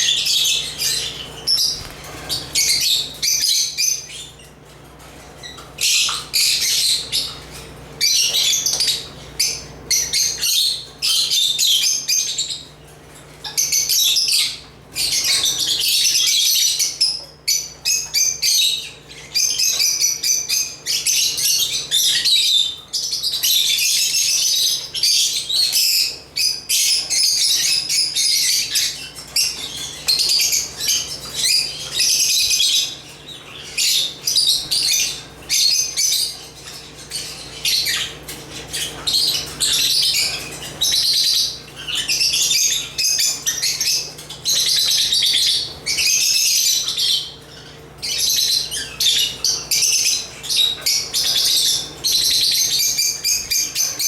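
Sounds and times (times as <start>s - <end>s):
lovebirds chattering and chirping: 0.0s - 54.0s.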